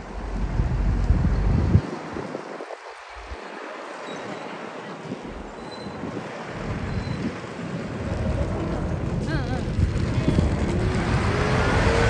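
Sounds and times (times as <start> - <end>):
wind on microphone: 0.0 - 3.5, 4.1 - 12.0.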